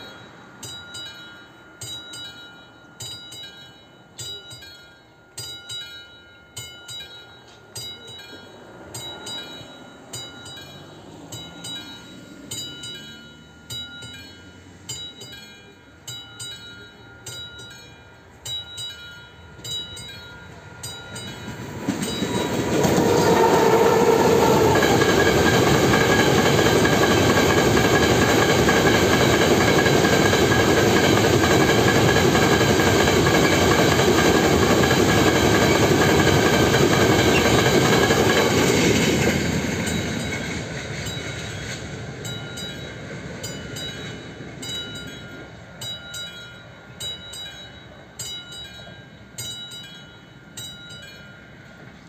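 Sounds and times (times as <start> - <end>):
freight train wheels clattering: 0.0 - 52.0
level-crossing warning bell ringing: 0.0 - 52.0.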